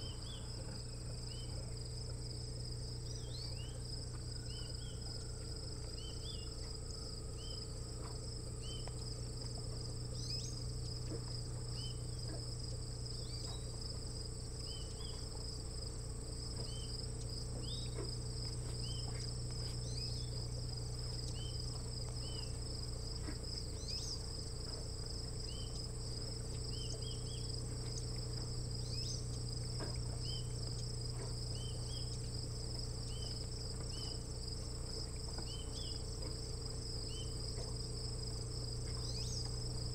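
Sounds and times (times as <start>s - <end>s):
crickets trilling: 0.0s - 39.9s
low hum: 0.0s - 39.9s.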